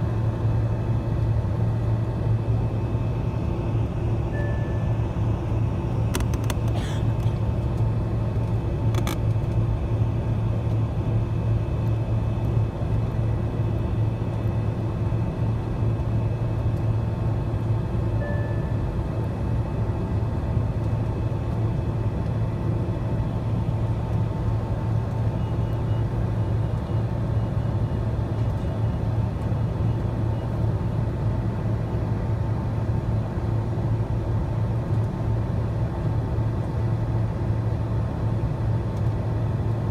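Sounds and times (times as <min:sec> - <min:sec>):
airplane engines rumbling: 0:00.0 - 0:39.9
faint steady whine: 0:00.0 - 0:39.9.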